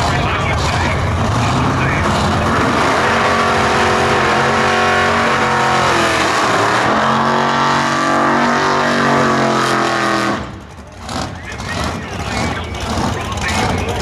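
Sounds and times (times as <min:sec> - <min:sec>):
car engine at full throttle: 0:00.0 - 0:14.0.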